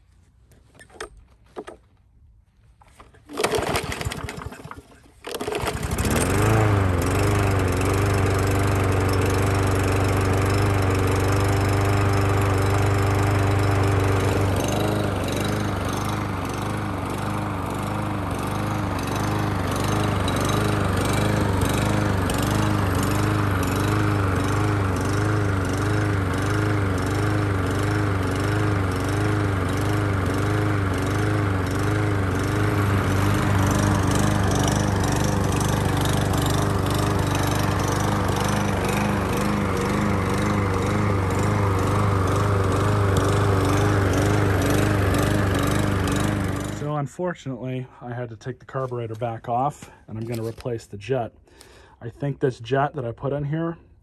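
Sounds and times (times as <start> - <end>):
mower engine pull-started: 0.5 - 2.0, 2.7 - 47.2, 48.0 - 52.3.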